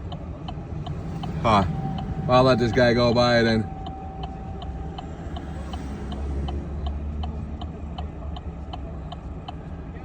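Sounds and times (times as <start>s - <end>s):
turn signal clicking: 0.0s - 2.1s, 3.7s - 9.7s.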